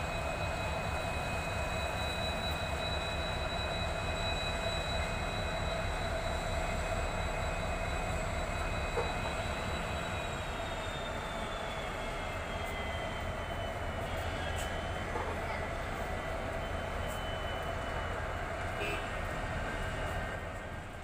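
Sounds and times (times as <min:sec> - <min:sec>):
locomotive high whine: 0:00.0 - 0:21.0
train low rumble: 0:00.0 - 0:21.0.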